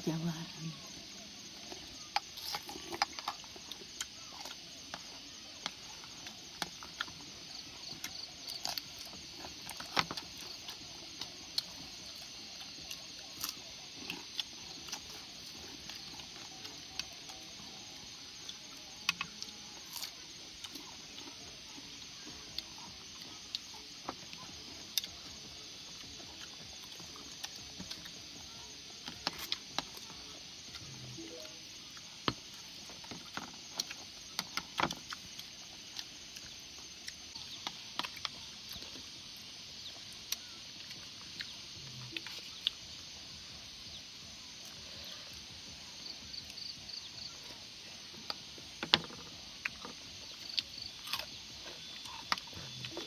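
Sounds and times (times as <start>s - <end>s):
night insects chirping: 0.0s - 53.0s.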